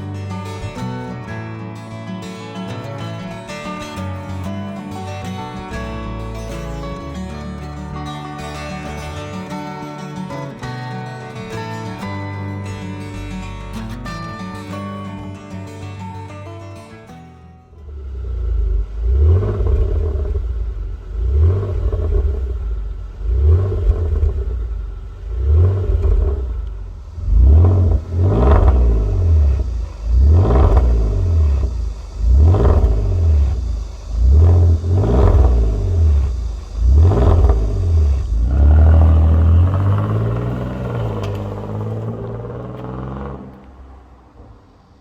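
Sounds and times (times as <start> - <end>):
car engine revving: 3.4 - 15.1, 17.7 - 45.0.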